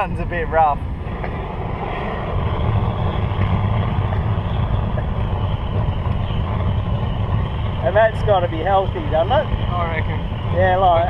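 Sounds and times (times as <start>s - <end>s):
blow torch burning: 0.2s - 11.0s.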